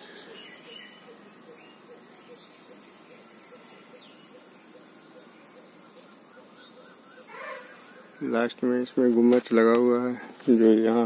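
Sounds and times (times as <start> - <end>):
insects trilling drone: 0.0 - 11.0.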